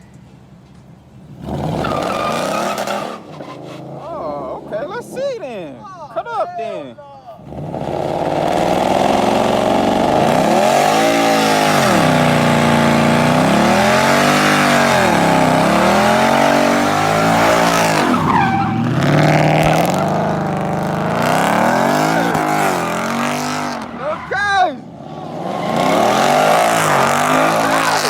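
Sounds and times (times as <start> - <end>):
car engine revving: 1.2 - 5.6, 7.4 - 28.0
tires squealing: 1.2 - 6.3, 7.4 - 28.0.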